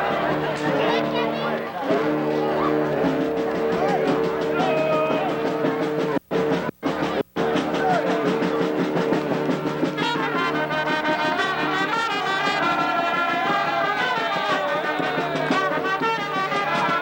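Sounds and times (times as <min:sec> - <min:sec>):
marching brass band playing: 0:00.0 - 0:17.0.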